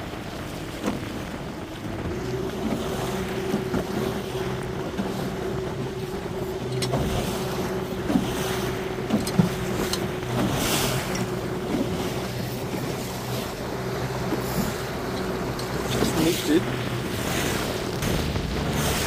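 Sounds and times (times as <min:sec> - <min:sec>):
motor boat engine running: 0:00.0 - 0:19.0
waves slapping against hull: 0:00.0 - 0:19.0
wind buffeting microphone: 0:00.0 - 0:19.0.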